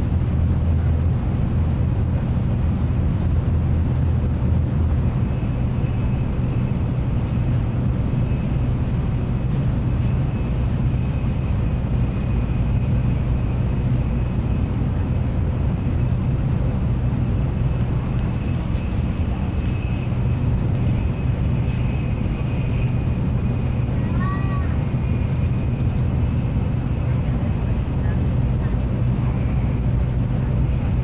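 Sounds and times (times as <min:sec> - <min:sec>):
train cabin rumble: 0:00.0 - 0:31.0.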